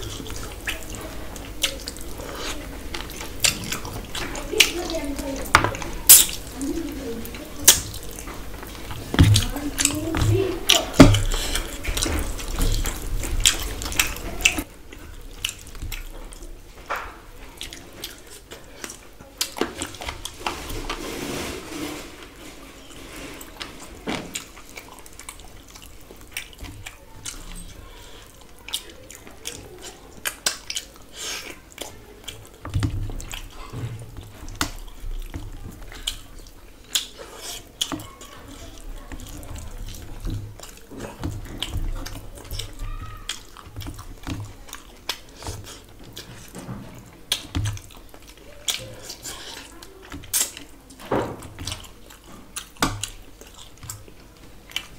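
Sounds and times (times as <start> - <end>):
wet chewing and lip-smacking: 0.0 - 20.4, 23.6 - 54.9.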